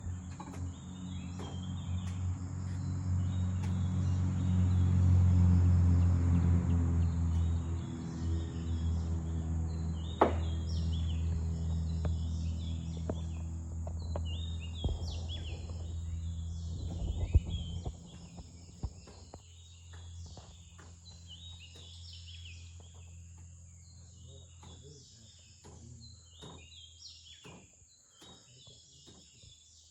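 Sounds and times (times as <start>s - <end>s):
low steady hum: 0.0s - 26.2s
high insect drone: 0.0s - 29.2s
birds chirping: 0.0s - 29.9s.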